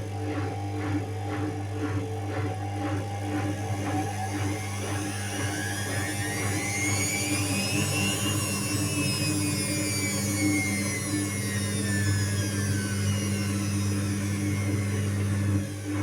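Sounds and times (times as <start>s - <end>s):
washing machine drum whine: 0.0s - 16.0s
washing machine motor hum: 0.0s - 16.0s.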